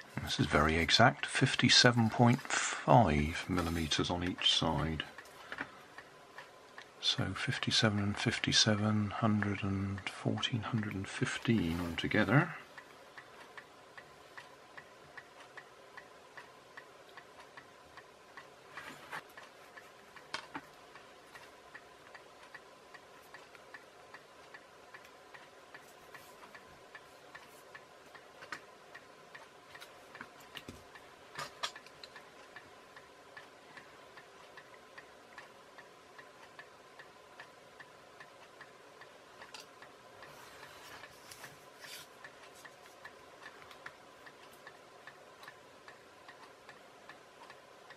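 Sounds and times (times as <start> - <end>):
faint steady ticking: 0.0 - 47.9.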